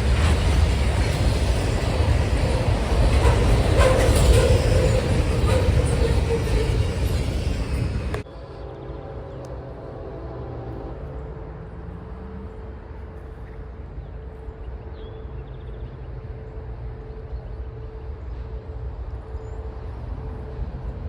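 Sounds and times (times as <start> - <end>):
train rumbling by: 0.0 - 21.0.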